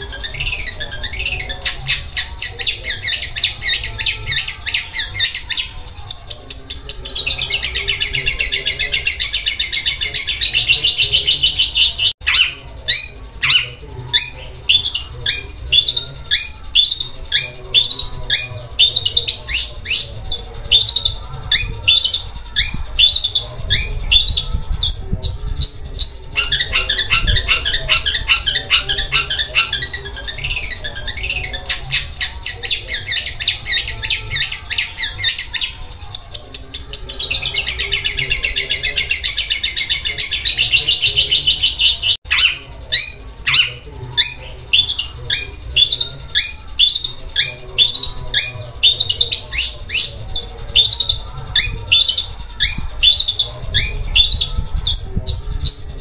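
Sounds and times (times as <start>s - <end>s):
shrike harsh chattering song: 0.0s - 56.0s.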